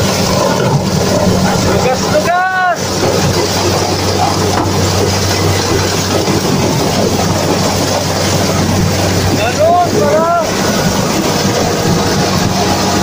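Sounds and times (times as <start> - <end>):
corn harvester running: 0.0 - 13.0.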